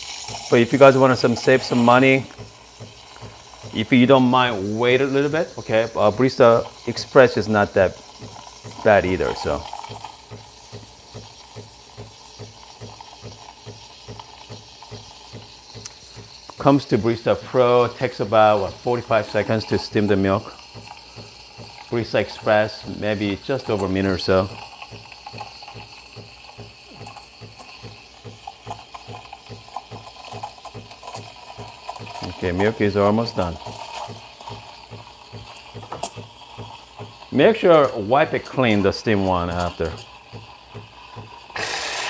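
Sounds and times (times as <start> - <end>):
steam wand hissing through milk: 0.0 - 42.0.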